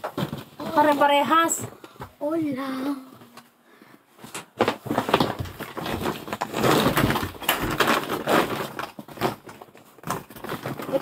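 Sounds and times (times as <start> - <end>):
plastic bags rustling: 0.0 - 2.0, 4.1 - 11.0.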